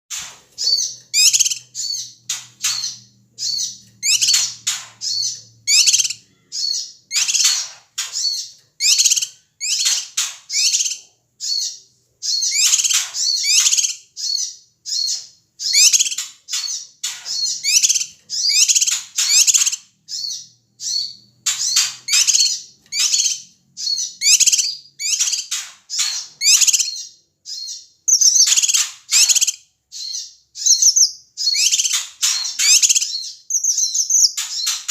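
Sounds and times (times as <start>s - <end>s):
bird harsh chattering calls: 0.1s - 34.9s.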